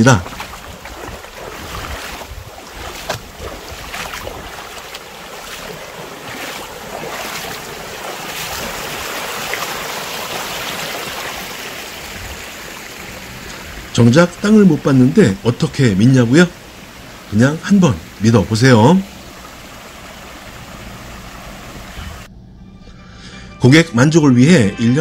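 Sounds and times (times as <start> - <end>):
stream running over rocks: 0.0 - 22.3.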